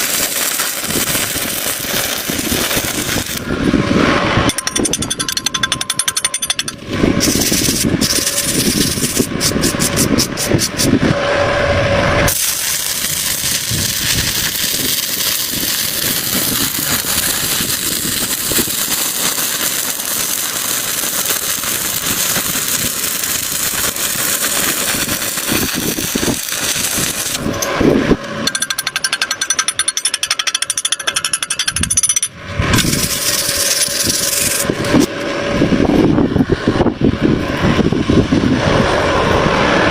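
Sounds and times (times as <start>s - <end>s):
harsh metalworking tool noise: 0.0s - 37.9s.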